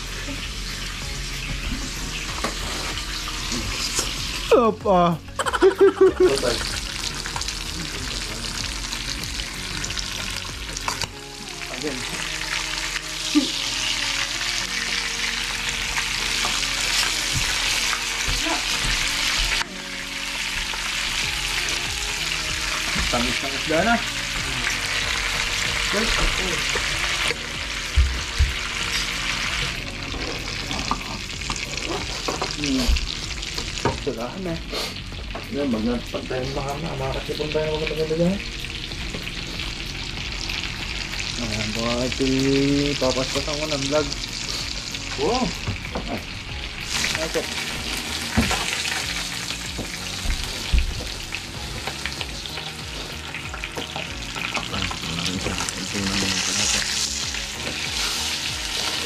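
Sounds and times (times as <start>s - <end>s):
squid sizzling in oil: 0.0s - 4.6s, 5.4s - 59.0s.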